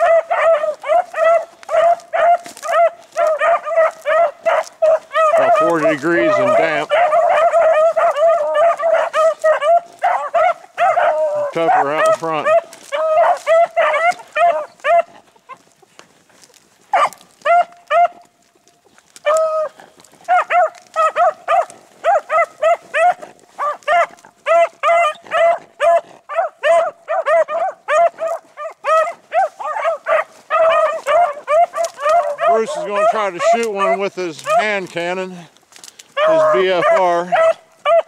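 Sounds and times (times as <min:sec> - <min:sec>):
hounds barking: 0:00.0 - 0:38.0.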